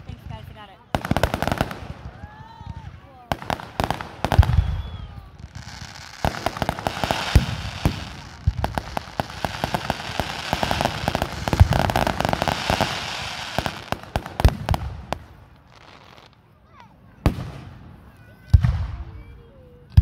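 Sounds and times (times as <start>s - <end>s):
fireworks bursting with thumps: 0.0s - 16.1s
fireworks crackling and hissing: 0.0s - 20.0s.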